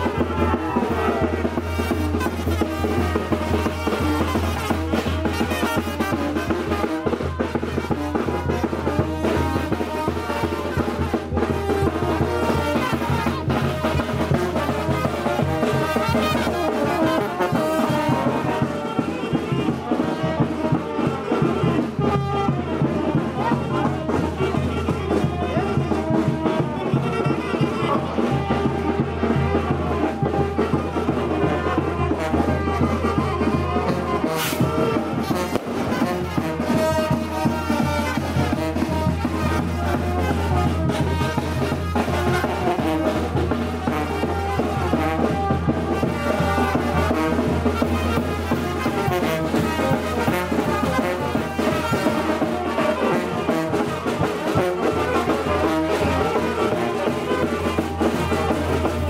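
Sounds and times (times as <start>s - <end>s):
brass band music: 0.0s - 59.0s.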